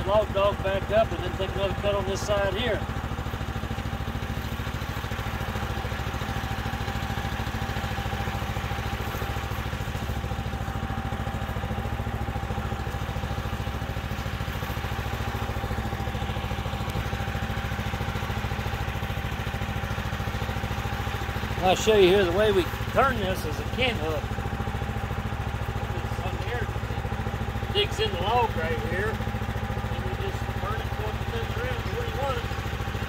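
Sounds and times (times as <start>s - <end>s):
gasoline engine idling: 0.0s - 33.0s.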